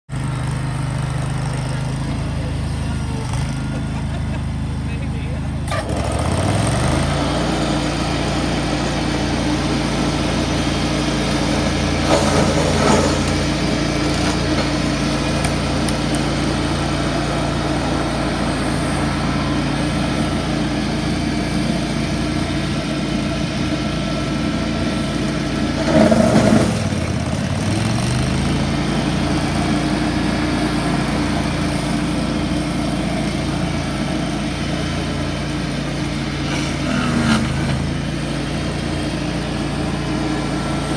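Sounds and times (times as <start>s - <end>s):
tractor engine running: 0.1s - 40.9s
shredder rough bursts: 0.2s - 40.9s.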